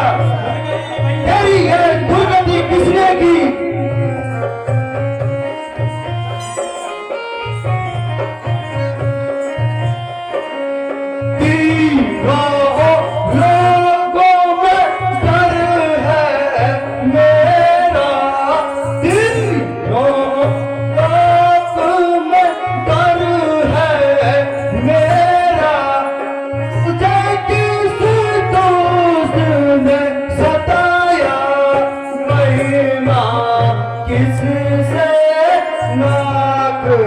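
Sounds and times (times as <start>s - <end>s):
person singing: 0.0s - 37.0s
pitched instrument: 0.0s - 37.0s.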